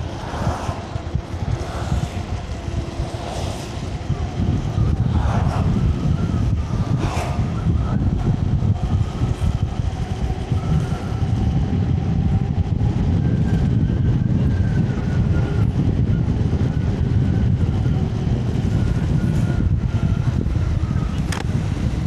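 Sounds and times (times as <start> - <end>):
electric motor whine: 0.0 - 22.0
wind and road rumble: 0.0 - 22.0.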